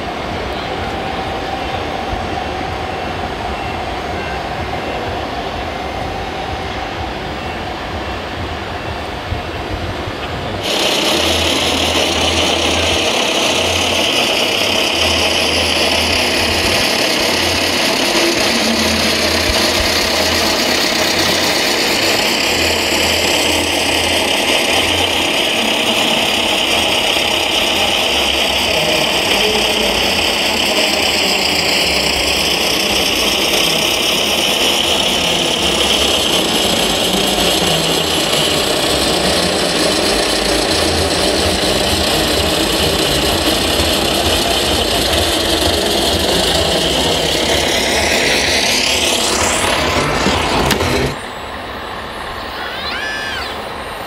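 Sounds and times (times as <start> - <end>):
model truck engine drone: 0.0 - 54.0.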